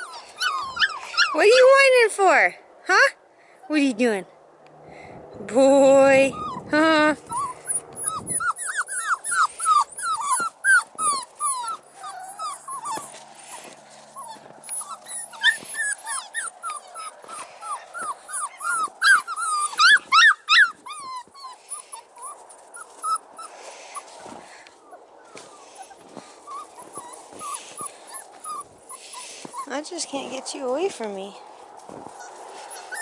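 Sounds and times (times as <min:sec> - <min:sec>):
puppy whining and whimpering: 0:00.0 - 0:01.9, 0:06.1 - 0:30.0, 0:32.1 - 0:33.0.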